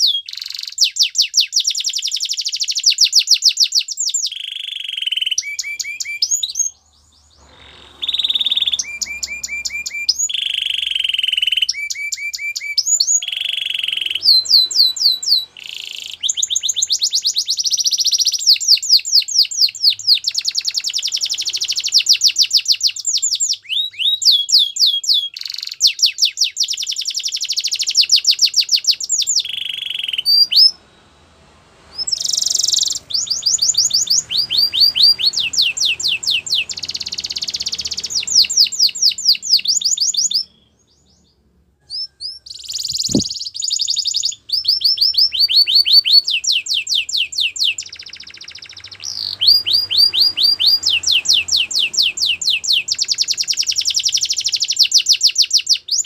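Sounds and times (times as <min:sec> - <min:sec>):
canary singing trills: 0:00.0 - 0:31.2, 0:31.8 - 0:56.0.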